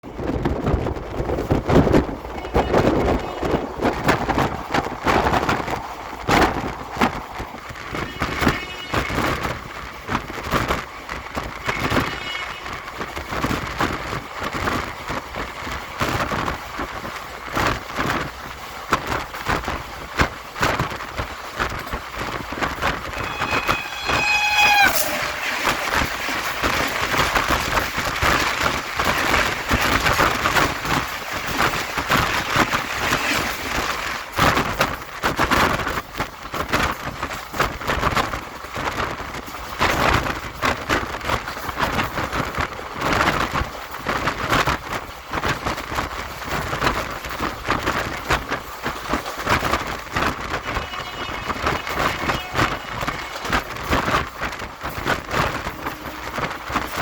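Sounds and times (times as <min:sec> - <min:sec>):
train passing at speed: 0:00.0 - 0:57.0
wheels clattering on track: 0:00.0 - 0:57.0.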